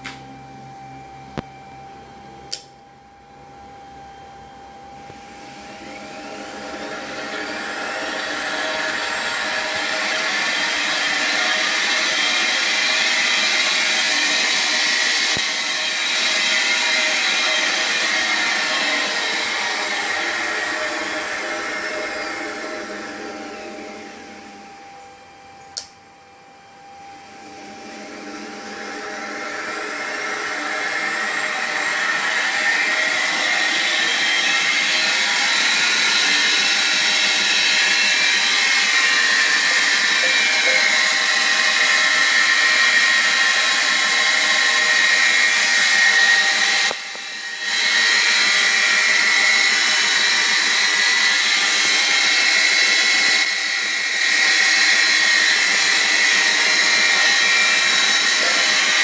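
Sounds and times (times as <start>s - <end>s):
belt grinder motor whining: 3.8s - 25.9s, 26.7s - 59.0s.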